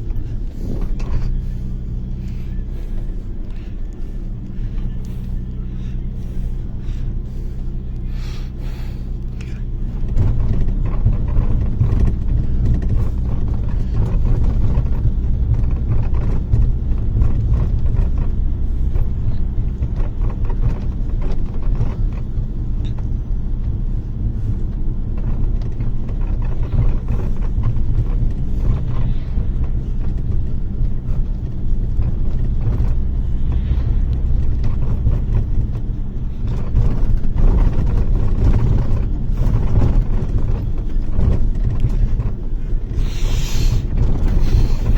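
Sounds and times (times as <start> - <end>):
body knocks and rattles: 0.0 - 44.9
bus engine and road rumble: 0.0 - 44.9.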